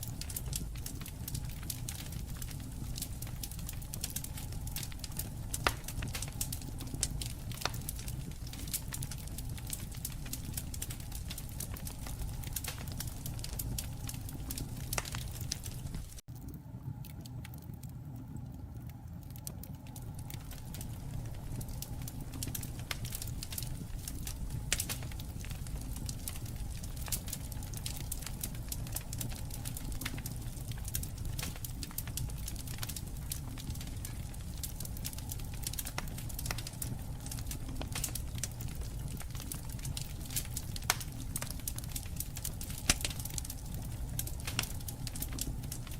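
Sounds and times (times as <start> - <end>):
campfire flames rumbling: 0.0 - 45.9
fire crackles and pops: 0.0 - 45.9.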